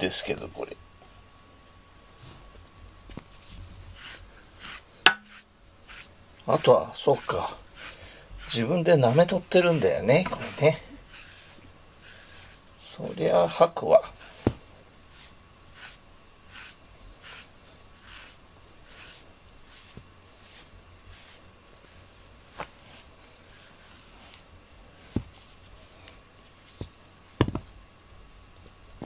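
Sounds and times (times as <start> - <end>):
brush raking through fur: 3.2 - 27.0.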